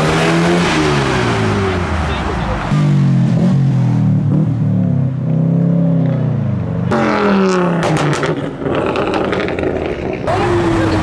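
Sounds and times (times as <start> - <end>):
car engines revving past: 0.0 - 11.0.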